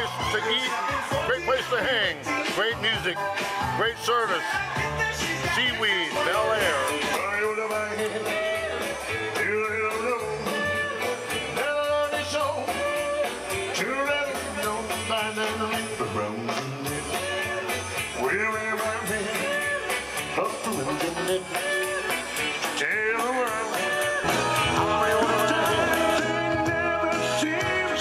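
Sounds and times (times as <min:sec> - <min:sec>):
man singing rock and roll: 0:00.0 - 0:28.0.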